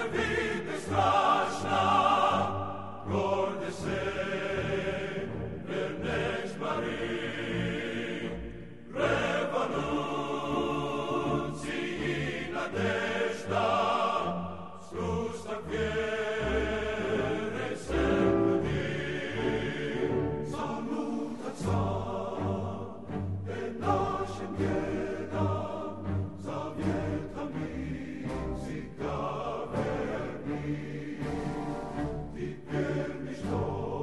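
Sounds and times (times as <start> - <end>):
choir singing march-style song: 0.0 - 34.0.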